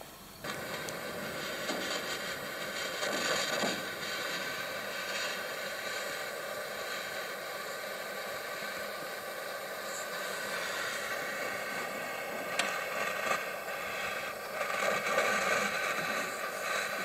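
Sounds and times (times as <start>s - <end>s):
torch flame hissing: 0.0s - 17.0s.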